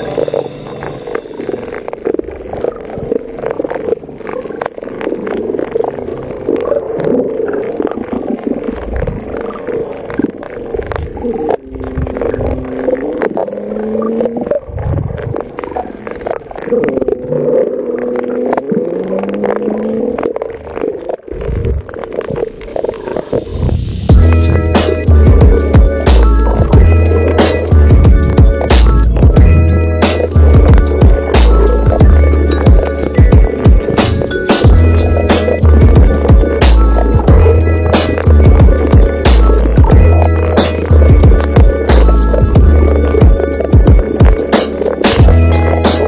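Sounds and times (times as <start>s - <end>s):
dense crackle of underwater clicks: 0.0s - 46.0s.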